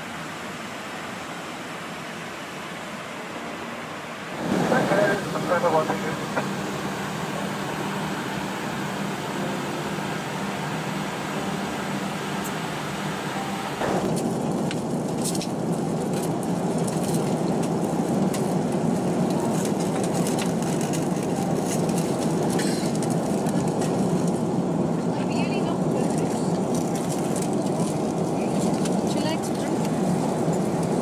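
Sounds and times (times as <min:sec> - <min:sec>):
airliner cabin noise: 0:00.0 - 0:31.0.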